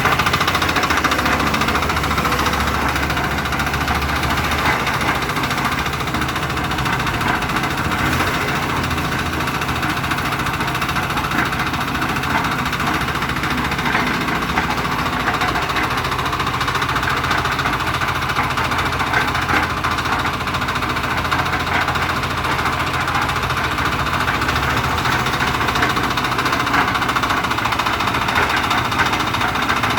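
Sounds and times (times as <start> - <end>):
concrete mixer engine running: 0.0 - 29.9.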